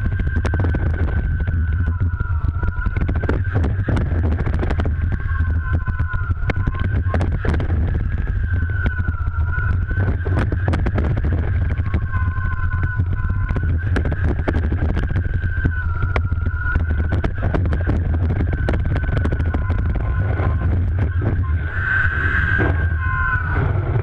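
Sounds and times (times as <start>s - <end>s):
steady whine: 0.0s - 24.0s
water ski rumble: 0.0s - 24.0s.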